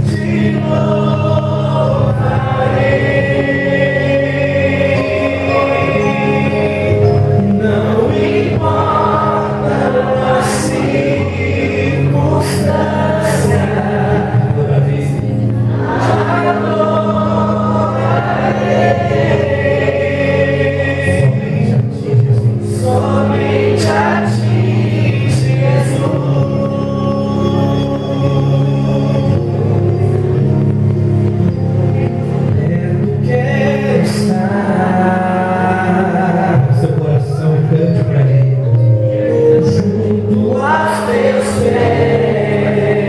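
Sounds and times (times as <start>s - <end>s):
accompanying music: 0.0s - 43.0s
group singing a gospel hymn: 0.0s - 43.0s.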